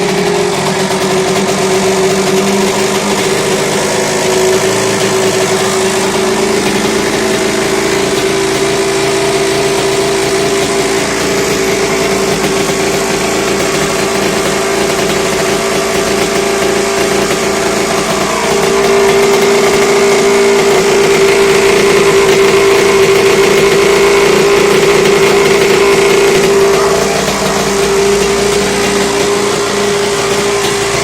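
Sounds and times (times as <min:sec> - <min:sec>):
two-stroke engine idling: 0:00.0 - 0:31.0.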